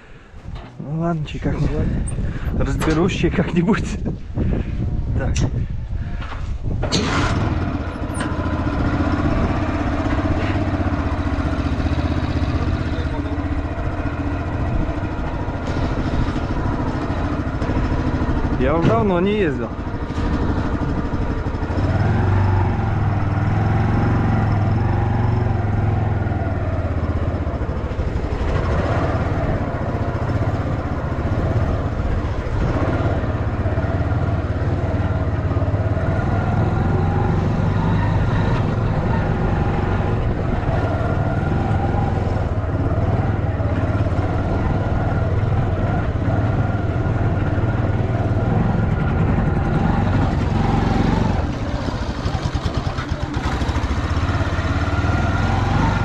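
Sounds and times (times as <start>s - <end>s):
small engine running: 6.8s - 56.0s.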